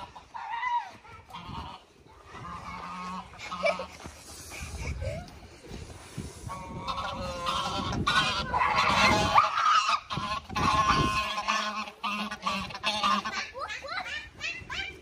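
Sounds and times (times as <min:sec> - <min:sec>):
geese honking: 0:00.0 - 0:04.0, 0:06.4 - 0:15.0.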